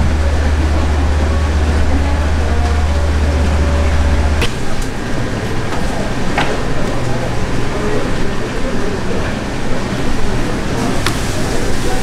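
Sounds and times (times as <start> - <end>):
faint voices: 0.0 - 12.0
steady low hum: 0.0 - 12.0.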